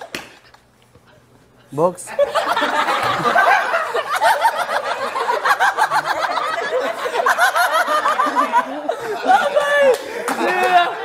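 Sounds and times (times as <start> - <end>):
group of people laughing: 2.1 - 11.0.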